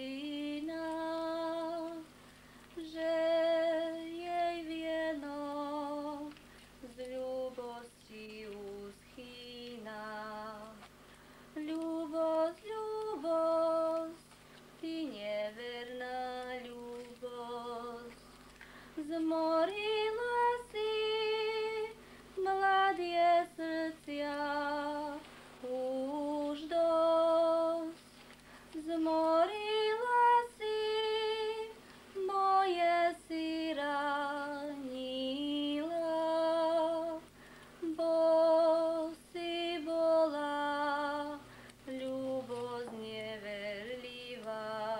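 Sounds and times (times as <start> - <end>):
woman singing unaccompanied folk song: 0.0 - 44.9.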